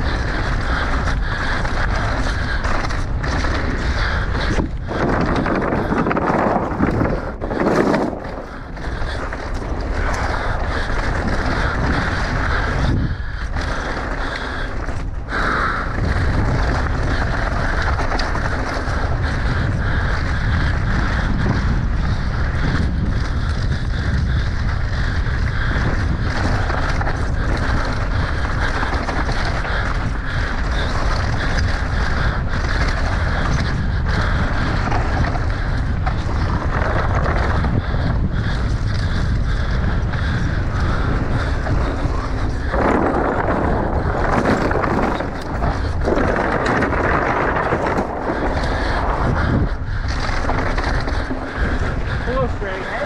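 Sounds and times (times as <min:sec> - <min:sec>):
bike clattering over bumps: 0:00.0 - 0:53.0
tyres rolling over dirt: 0:00.0 - 0:53.0
wind on microphone: 0:00.0 - 0:53.0.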